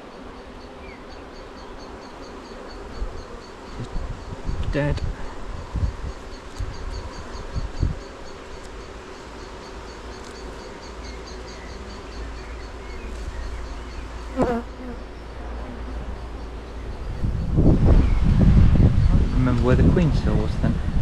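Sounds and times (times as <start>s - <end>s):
honey bees buzzing: 0.0s - 17.9s.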